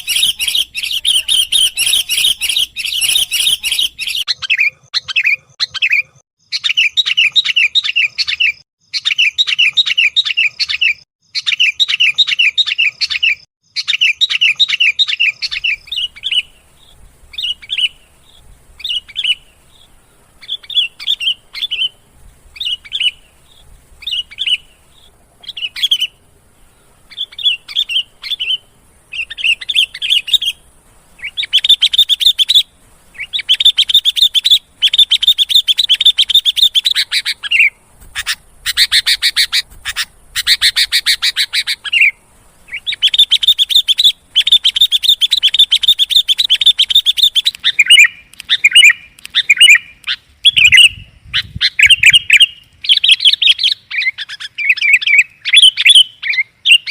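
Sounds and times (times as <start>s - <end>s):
bulbul calling: 0.0s - 56.9s.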